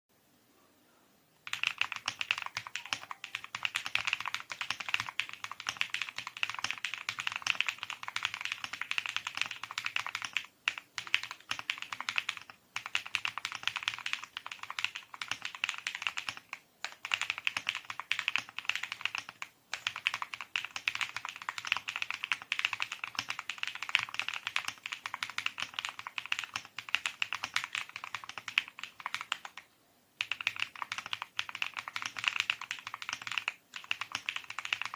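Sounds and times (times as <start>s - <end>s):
mechanical keyboard typing: 1.4s - 34.9s.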